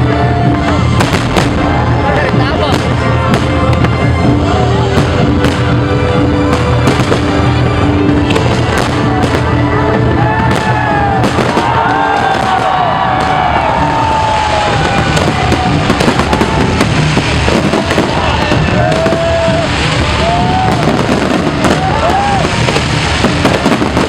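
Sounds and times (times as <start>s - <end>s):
fireworks exploding and crackling: 0.0s - 24.0s.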